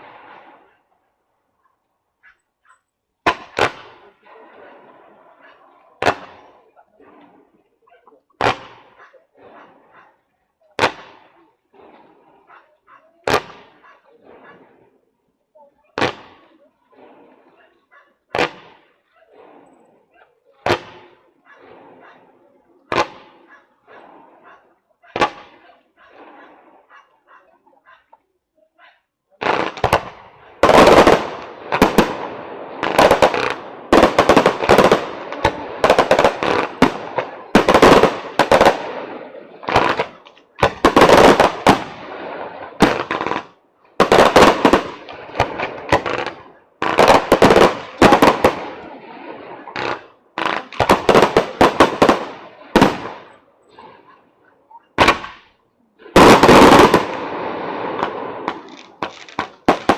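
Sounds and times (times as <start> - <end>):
fireworks exploding: 3.2 - 28.1, 29.4 - 59.9.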